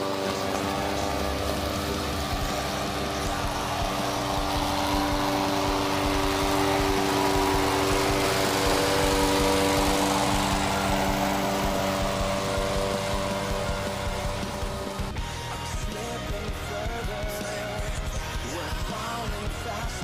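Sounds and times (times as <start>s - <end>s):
petrol engine running steadily: 0.0s - 20.0s.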